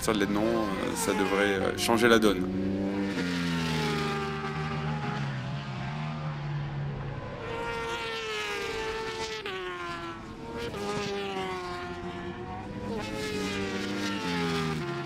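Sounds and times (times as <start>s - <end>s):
racing motorcycles passing by: 0.0s - 15.0s.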